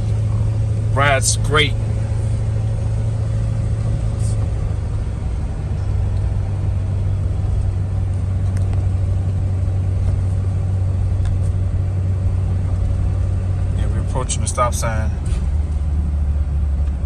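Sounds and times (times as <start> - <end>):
road rumble: 0.0 - 17.0
truck engine cruising: 0.0 - 17.0.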